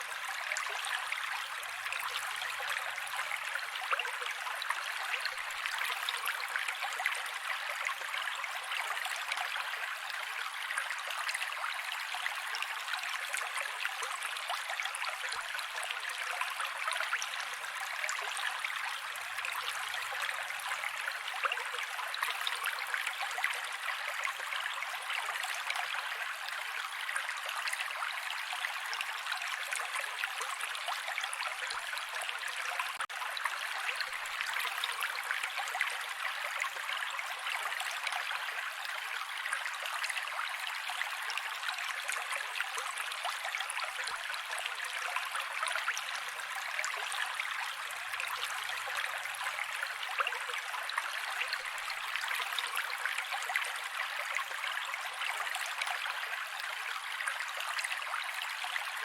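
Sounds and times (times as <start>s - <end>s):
creek water flowing over rocks: 0.0s - 59.0s.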